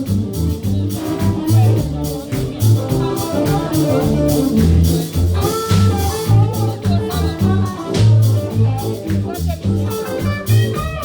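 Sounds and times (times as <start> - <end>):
bass line: 0.0 - 11.0
drum kit hits: 0.0 - 11.0
guitar: 0.0 - 11.0.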